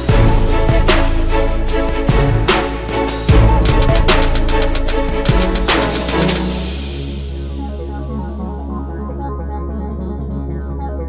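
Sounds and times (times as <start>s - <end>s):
electronic music with synthesizer: 0.0s - 11.0s.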